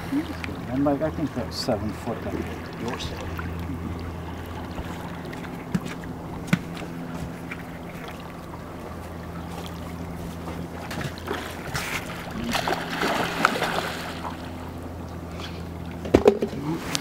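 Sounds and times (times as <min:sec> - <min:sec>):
boat engine idling: 0:00.0 - 0:17.0
wind and water rushing: 0:00.0 - 0:17.0.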